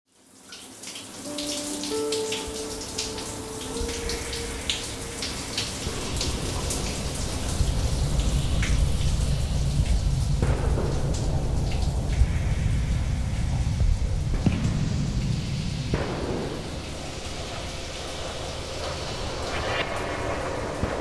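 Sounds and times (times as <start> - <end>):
water drips: 0.1 - 20.0
shower water splashing on tiles: 0.1 - 21.0
deep rumble: 3.8 - 21.0.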